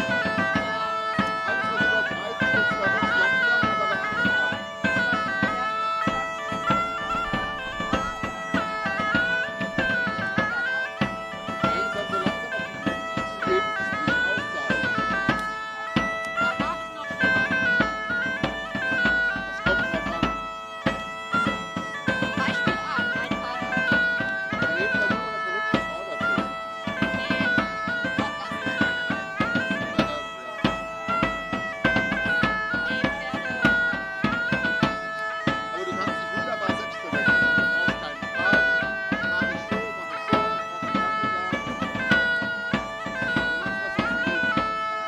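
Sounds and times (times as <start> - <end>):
bagpipes playing folk melody: 0.0 - 45.0
drums beating: 0.0 - 45.0.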